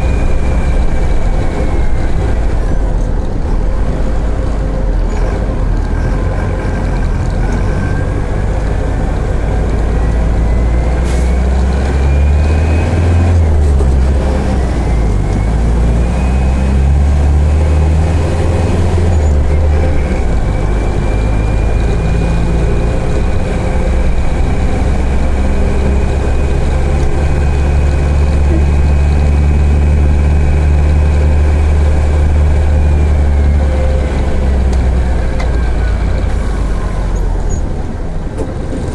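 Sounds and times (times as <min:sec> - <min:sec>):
bus diesel engine accelerating: 0:00.0 - 0:38.9.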